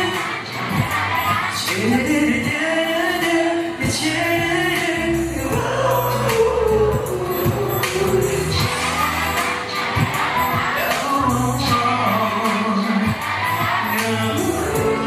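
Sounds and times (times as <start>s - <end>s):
amplified backing music: 0.0s - 15.0s
person singing pop ballad: 0.0s - 15.0s.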